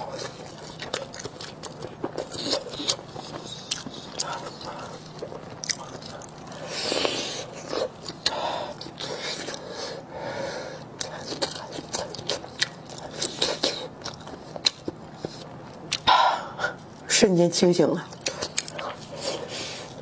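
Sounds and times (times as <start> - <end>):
chewing with mouth clicks: 0.0 - 9.7, 11.0 - 16.1, 18.1 - 20.0.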